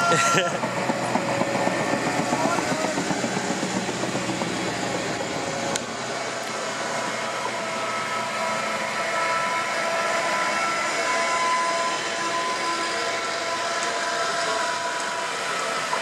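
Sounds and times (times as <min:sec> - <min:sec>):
excavator engines droning: 0:00.0 - 0:16.0
high mechanical whine: 0:00.0 - 0:16.0.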